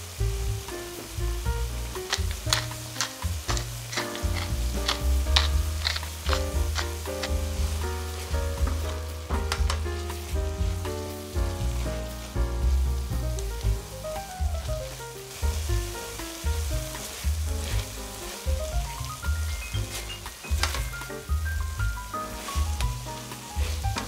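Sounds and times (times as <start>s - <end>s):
background music with deep bass: 0.0s - 24.0s
vegetables sizzling in oil: 0.0s - 24.0s.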